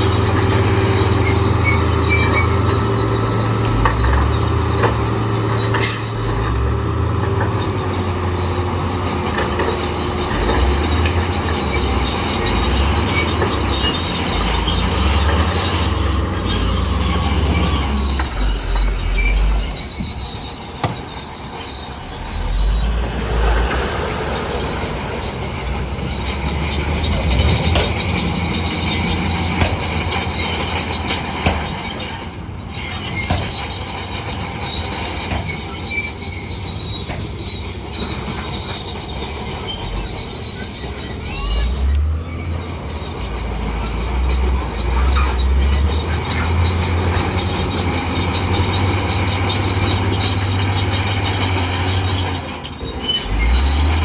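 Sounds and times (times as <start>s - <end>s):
bulldozer diesel engine under load: 0.0s - 54.0s
steel tracks squealing and clanking: 0.0s - 54.0s.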